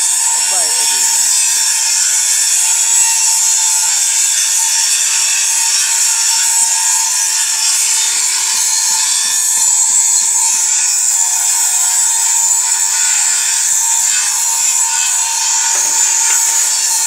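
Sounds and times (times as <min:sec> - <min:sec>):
power tool grinding: 0:00.0 - 0:17.0.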